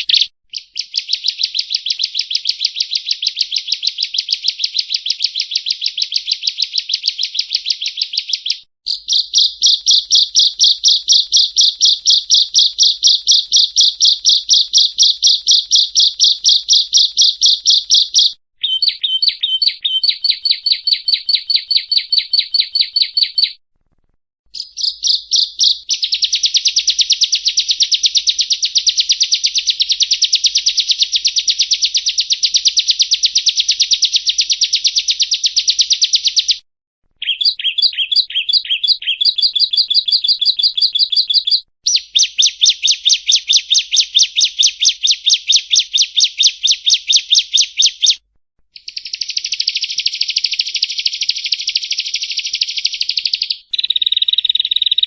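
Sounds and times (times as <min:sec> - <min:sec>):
bird chirping: 0:00.0 - 0:23.6, 0:24.5 - 0:36.6, 0:37.2 - 0:48.2, 0:48.8 - 0:55.0.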